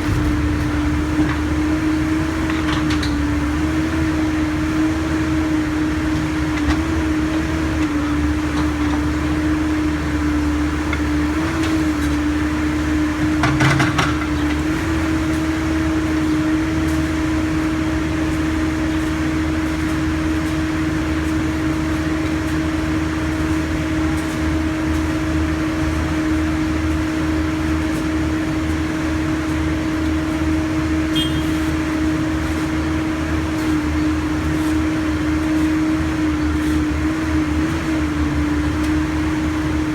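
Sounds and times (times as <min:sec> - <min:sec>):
diesel engine rumbling: 0:00.0 - 0:39.9.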